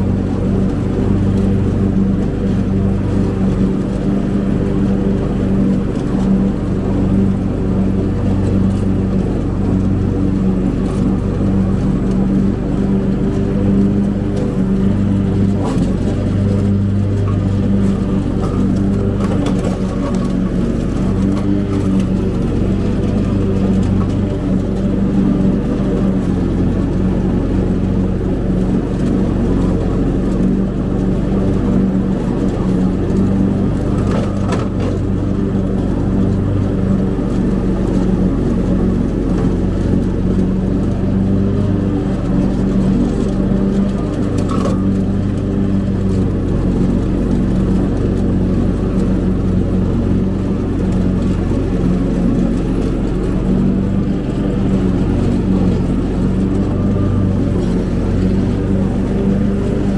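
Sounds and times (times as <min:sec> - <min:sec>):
riding mower engine droning: 0:00.0 - 0:59.9.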